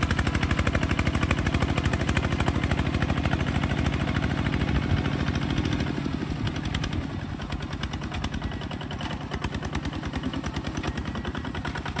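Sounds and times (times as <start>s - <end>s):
bulldozer engine chugging: 0.0s - 12.0s.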